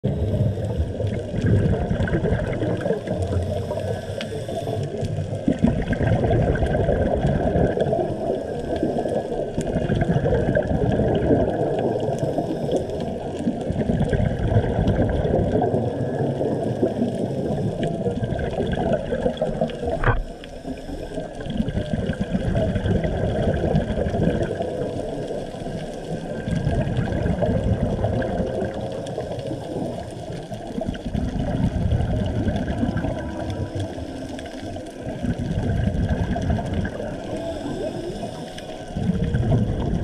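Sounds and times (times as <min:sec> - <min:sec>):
underwater rumble of moving water: 0:00.0 - 0:40.0
faint underwater clicks crackling: 0:00.2 - 0:40.0.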